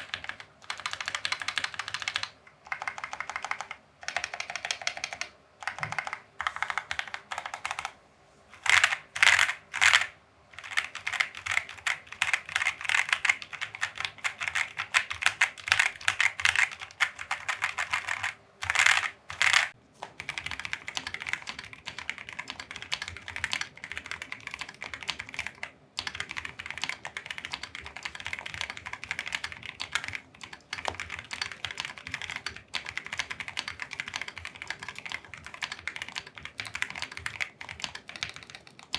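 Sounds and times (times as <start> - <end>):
fast typing on mechanical keyboard: 0.0 - 8.0, 8.6 - 38.9.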